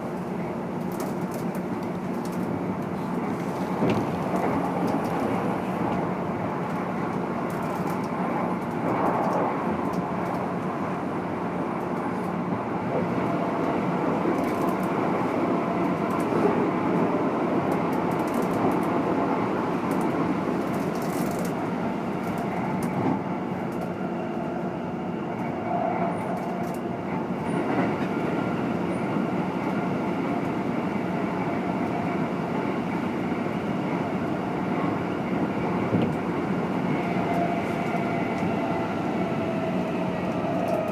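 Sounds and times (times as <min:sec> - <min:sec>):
train wheel and motor noise: 0:00.0 - 0:40.9.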